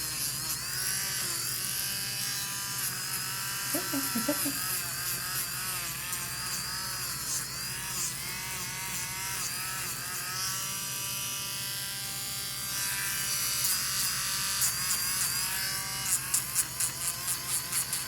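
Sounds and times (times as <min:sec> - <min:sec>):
electric nail grinder whining: 0:00.0 - 0:18.0.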